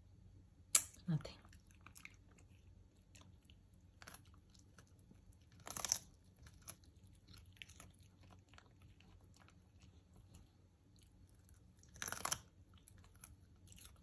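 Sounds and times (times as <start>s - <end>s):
dog chewing crunchy vegetable: 1.5s - 14.0s.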